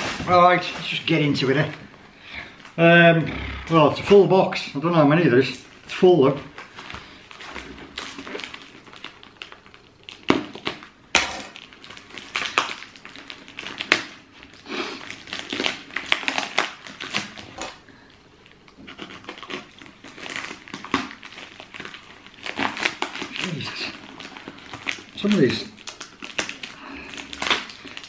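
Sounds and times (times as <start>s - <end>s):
packaging crinkling and tearing: 0.0s - 2.8s, 4.8s - 28.0s.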